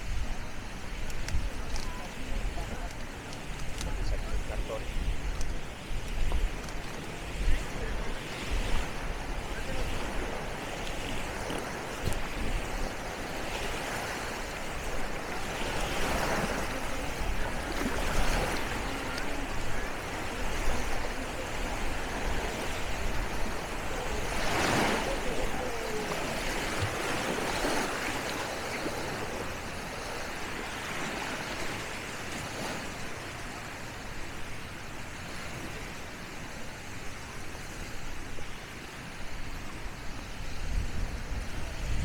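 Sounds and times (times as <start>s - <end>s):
waves breaking on beach: 0.0s - 42.0s
faint voices: 0.3s - 34.6s.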